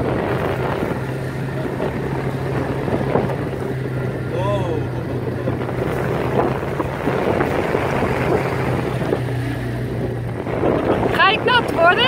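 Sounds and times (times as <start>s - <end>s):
boat engine droning: 0.0s - 12.0s
water splashing along hull: 0.0s - 12.0s
wind buffeting microphone: 0.0s - 12.0s.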